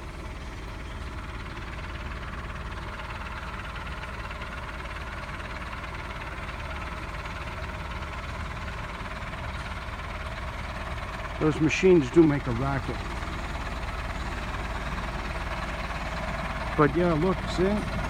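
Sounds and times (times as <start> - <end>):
heavy machinery engine rumble: 0.0 - 18.0.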